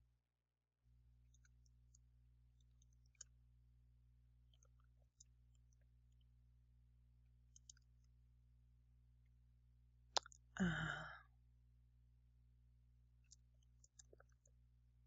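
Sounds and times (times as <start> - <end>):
low electrical hum: 0.8 - 15.0.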